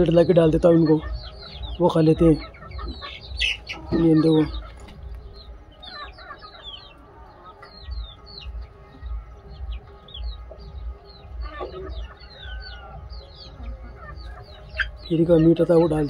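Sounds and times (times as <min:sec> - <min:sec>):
chickens clucking: 0:00.0 - 0:16.0
chicks peeping: 0:00.0 - 0:16.0.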